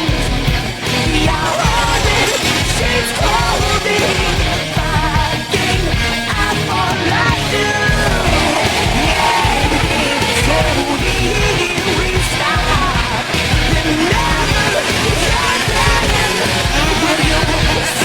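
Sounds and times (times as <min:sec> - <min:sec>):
loud rock music: 0:00.0 - 0:18.0
shouted sung vocal: 0:00.0 - 0:18.0.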